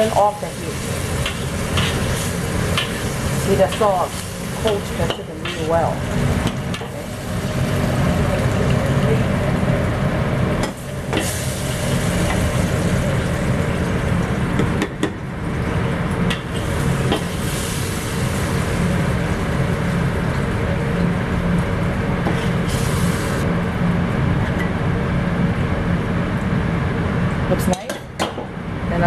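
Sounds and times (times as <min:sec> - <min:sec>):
exhaust fan humming: 0:00.0 - 0:29.0.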